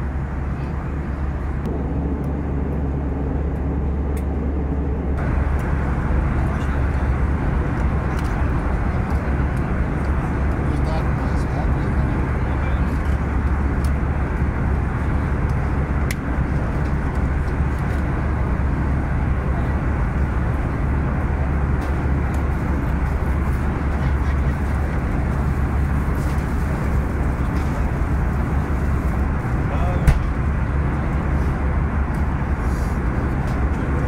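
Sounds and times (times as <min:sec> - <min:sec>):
airplane cabin engine roar: 0:00.0 - 0:34.0.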